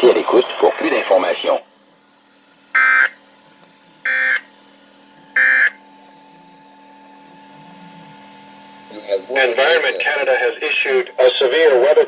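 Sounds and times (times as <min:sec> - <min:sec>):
faint steady radio hum: 0:00.0 - 0:12.0.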